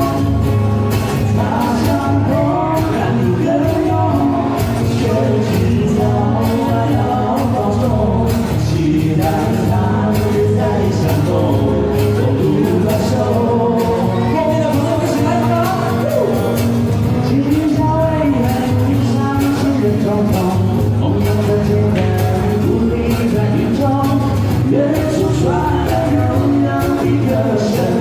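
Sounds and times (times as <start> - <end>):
lead vocal singing: 0.0 - 28.0
live band playing pop song: 0.0 - 28.0
steady drum beat: 0.0 - 28.0.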